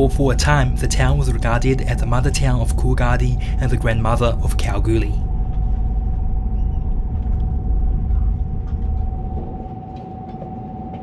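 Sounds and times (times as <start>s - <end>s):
railcar rumble: 0.0s - 11.0s
thin whine: 0.0s - 11.0s.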